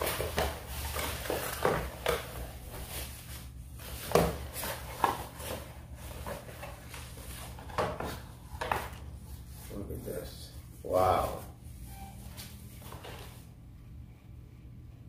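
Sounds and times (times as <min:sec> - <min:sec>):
tissue paper rustling: 0:00.0 - 0:13.5.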